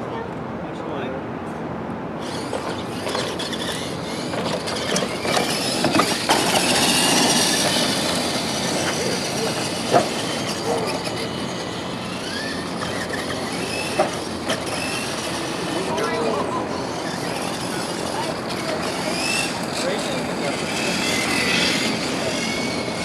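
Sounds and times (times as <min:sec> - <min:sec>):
electric motors whining: 0:02.2 - 0:23.0
toy trucks knocking: 0:02.2 - 0:23.0.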